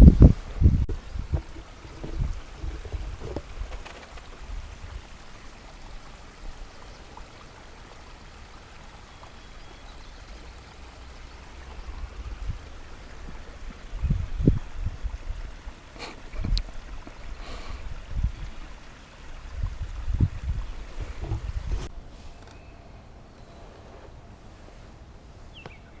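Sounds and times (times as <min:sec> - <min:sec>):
low rumbles: 0:00.0 - 0:24.4
soft water hiss: 0:00.0 - 0:26.0.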